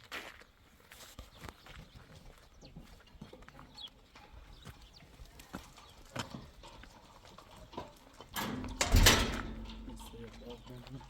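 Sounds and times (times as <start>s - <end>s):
hooves clopping on hard ground: 0.0s - 11.0s.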